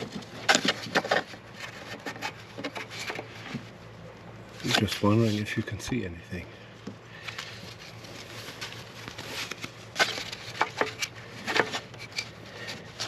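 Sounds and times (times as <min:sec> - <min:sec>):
hands handling parts and tools: 0:00.0 - 0:03.8, 0:04.6 - 0:06.0, 0:06.8 - 0:13.0.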